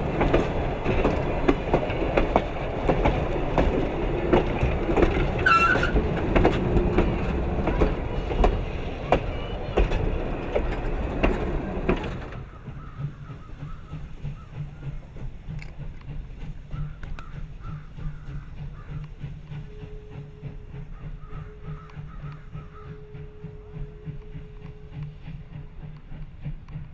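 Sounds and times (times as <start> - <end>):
train wheel squeal: 0.0 - 26.9
train wheels clacking over rail joints: 0.0 - 26.9.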